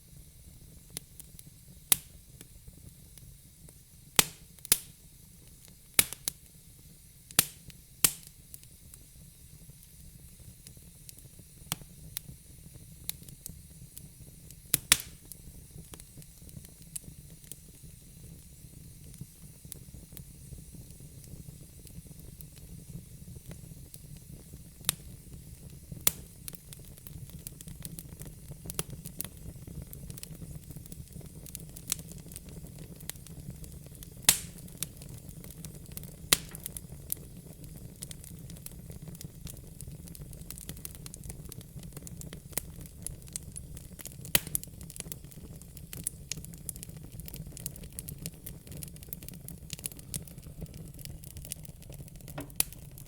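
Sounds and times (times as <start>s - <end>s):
wood fire crackling: 0.4s - 53.0s.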